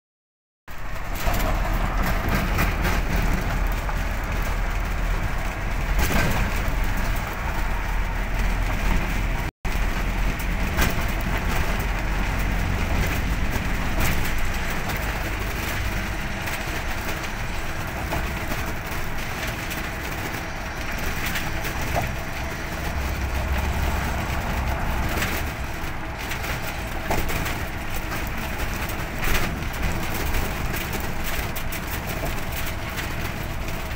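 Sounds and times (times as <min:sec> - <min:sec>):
deep rumble: 0:00.7 - 0:33.9
vehicle road and wind noise: 0:00.7 - 0:33.9.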